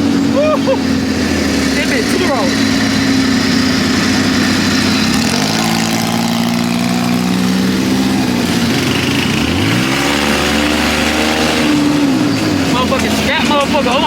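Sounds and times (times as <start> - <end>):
atv engine accelerating: 0.0 - 14.0.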